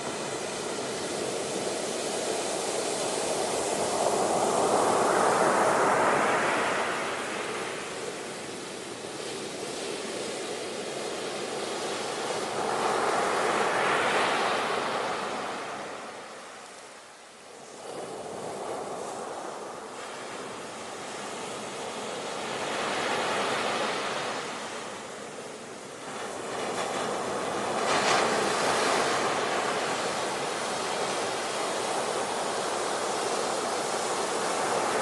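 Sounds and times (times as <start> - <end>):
ocean waves washing: 0.0 - 35.0.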